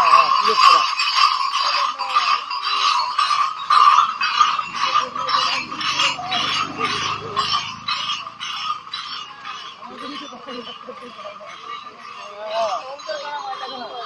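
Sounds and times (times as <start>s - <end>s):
brass bells jangling: 0.0s - 14.0s.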